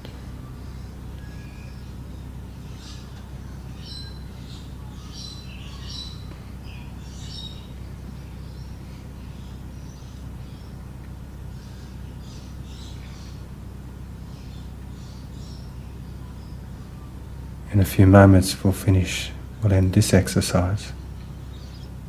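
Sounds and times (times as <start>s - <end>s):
birds chirping: 0.0s - 22.0s
steady low hum: 0.0s - 22.0s.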